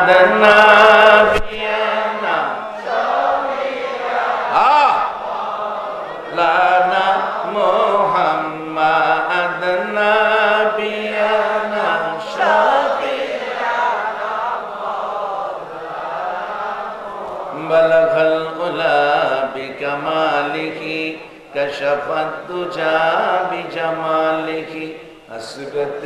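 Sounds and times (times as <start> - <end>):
men chanting together: 0.0 - 25.8.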